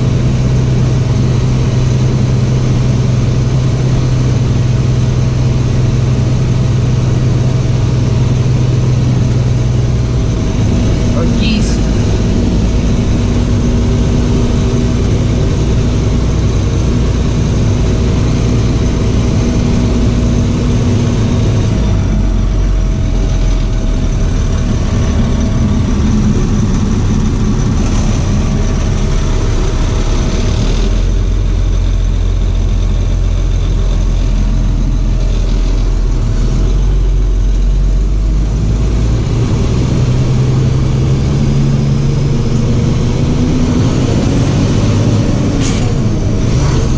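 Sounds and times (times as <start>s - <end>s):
truck engine running: 0.0s - 46.9s.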